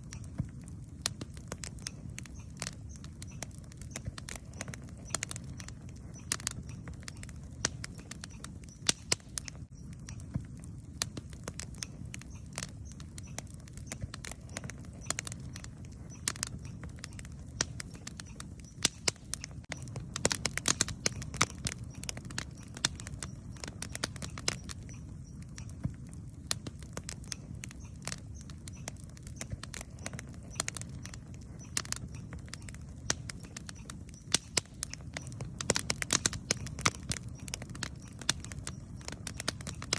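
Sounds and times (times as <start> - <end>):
wood campfire crackling: 0.0 - 39.9.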